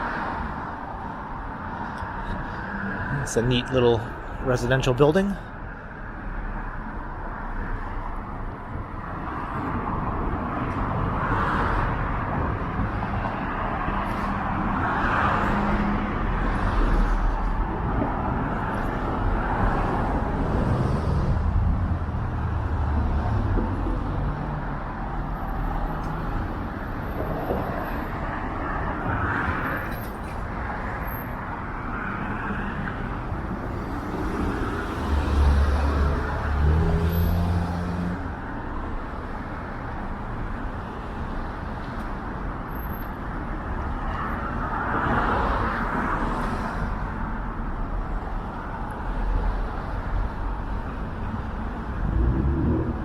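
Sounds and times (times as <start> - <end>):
cars driving past: 0.0 - 53.0.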